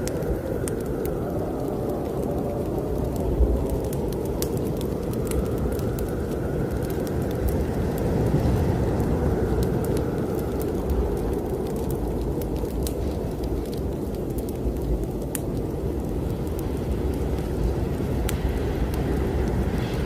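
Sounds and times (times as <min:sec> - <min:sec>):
fireplace fire crackling: 0:00.0 - 0:20.0
snowstorm wind rushing: 0:00.0 - 0:20.0.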